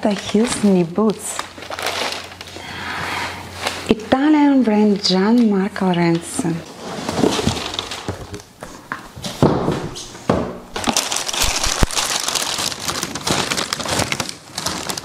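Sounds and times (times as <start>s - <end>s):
paper and plastic crinkling: 0.0s - 10.0s, 10.7s - 15.0s.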